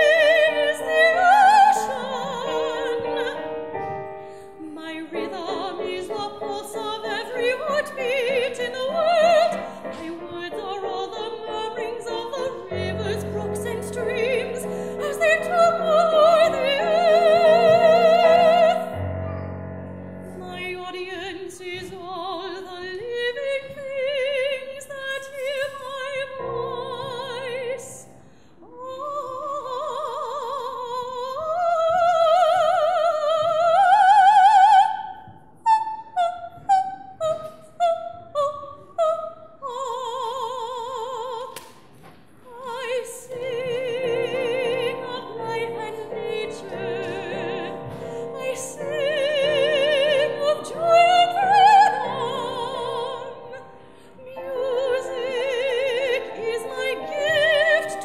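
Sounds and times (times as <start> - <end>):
piano accompaniment: 0.0 - 35.2, 42.5 - 58.0
soprano singing: 0.0 - 41.7, 42.4 - 58.0.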